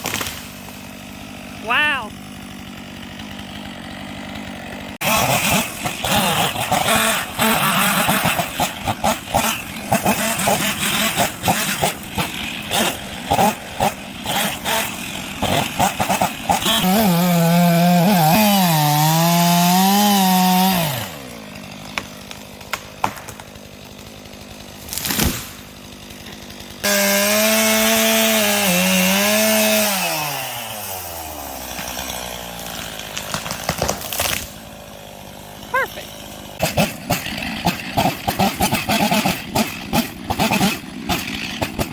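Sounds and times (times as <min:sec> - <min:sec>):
chainsaw cutting wood: 0:00.0 - 0:41.9
chainsaw idling: 0:00.0 - 0:41.9.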